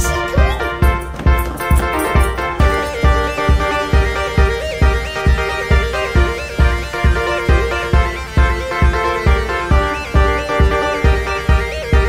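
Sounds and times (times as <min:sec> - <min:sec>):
kick-drum beat: 0:00.0 - 0:12.0
sliding synth melody: 0:00.0 - 0:12.0.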